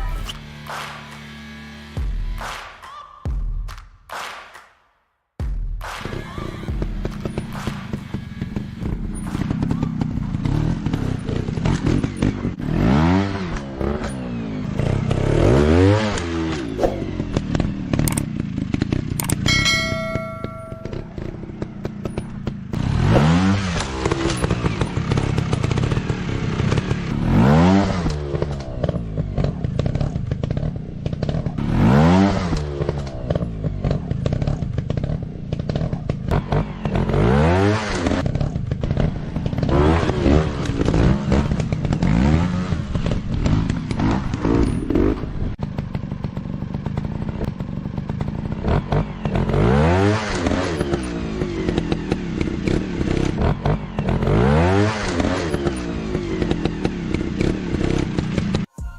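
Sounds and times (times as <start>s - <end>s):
dirt bike engines revving: 6.2s - 58.7s.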